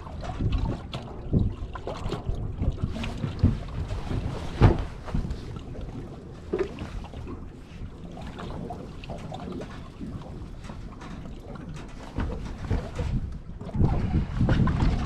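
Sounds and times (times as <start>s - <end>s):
knocks and thumps on boat: 0.0s - 15.0s
wind buffeting microphone: 0.0s - 15.0s.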